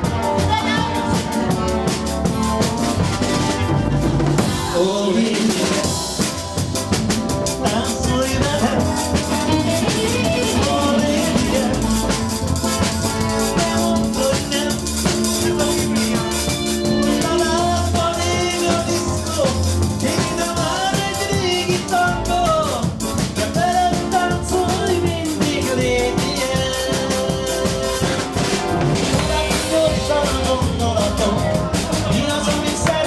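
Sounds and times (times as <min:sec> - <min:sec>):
drum kit steady beat: 0:00.0 - 0:33.0.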